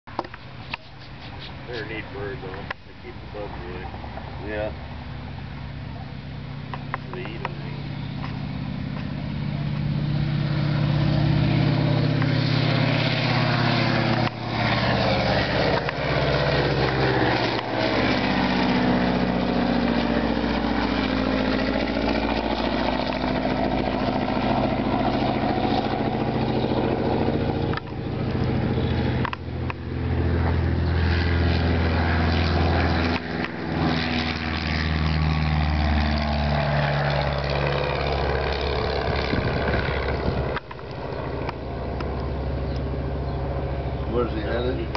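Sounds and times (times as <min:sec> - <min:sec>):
small plane engine droning overhead: 0:00.1 - 0:44.9
biplane piston engine passing by: 0:00.2 - 0:44.9.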